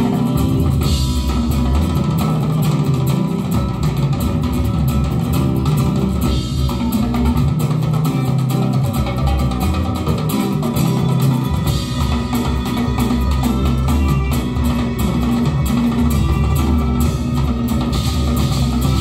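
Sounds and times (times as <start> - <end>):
bass-heavy music with guitars: 0.0 - 19.0.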